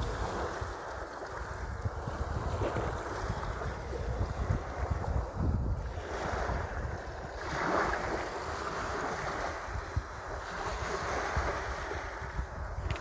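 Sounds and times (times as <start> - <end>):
sea waves washing in: 0.0 - 13.0
wind buffeting microphone: 0.0 - 13.0.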